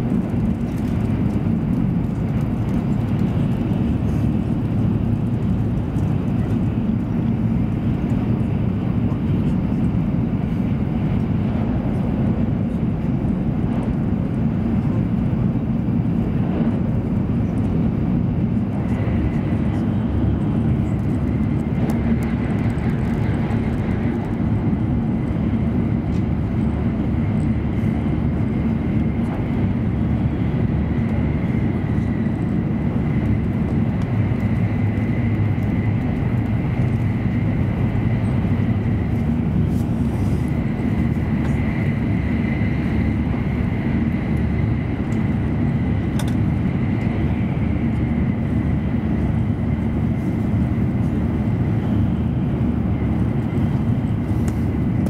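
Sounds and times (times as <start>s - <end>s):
train rumble and rush: 0.0s - 55.0s.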